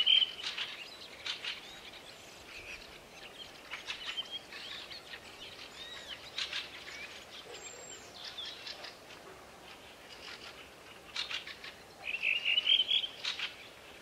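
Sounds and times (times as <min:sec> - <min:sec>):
songbirds chirping and singing: 0:00.0 - 0:14.0.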